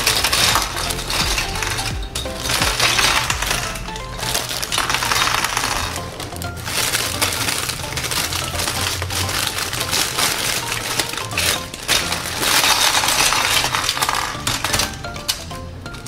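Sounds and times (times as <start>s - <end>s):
plastic bag crinkling: 0.0s - 16.0s
plastic pieces clattering: 0.0s - 16.0s.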